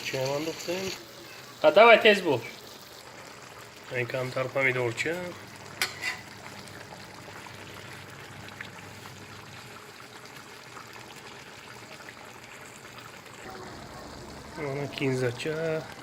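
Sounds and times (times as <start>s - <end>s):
stew sizzling and simmering: 0.0s - 16.0s.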